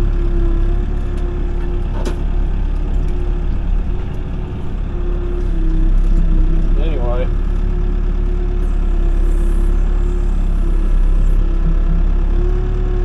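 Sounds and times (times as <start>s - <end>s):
diesel engine running: 0.0s - 13.0s
engine whine: 0.0s - 13.0s.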